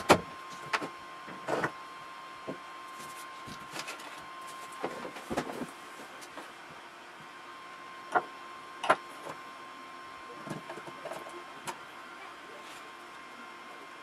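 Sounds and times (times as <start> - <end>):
faint high hum: 0.0 - 14.0.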